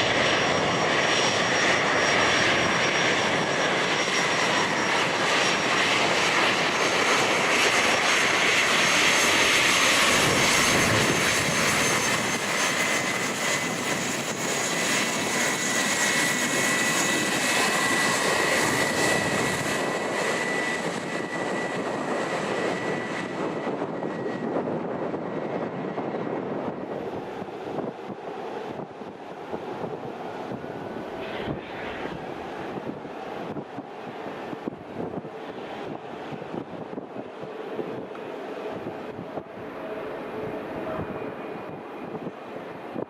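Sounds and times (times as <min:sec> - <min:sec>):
jet engines whining: 0:00.0 - 0:43.0
wind noise on microphone: 0:00.0 - 0:43.0.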